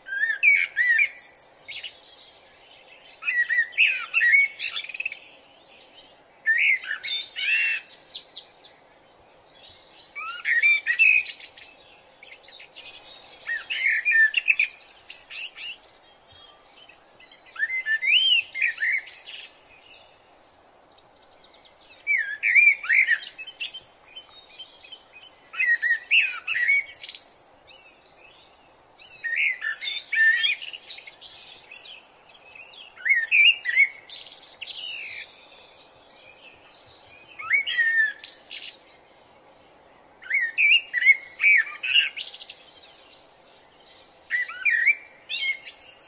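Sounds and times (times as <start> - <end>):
songbird singing: 0.0 - 46.0.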